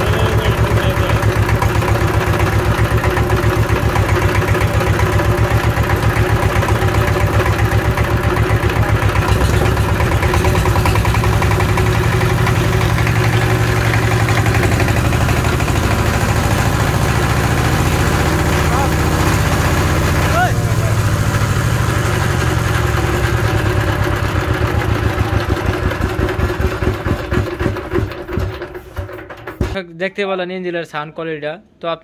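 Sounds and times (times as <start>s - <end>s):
diesel engine knocking steadily: 0.0s - 29.8s.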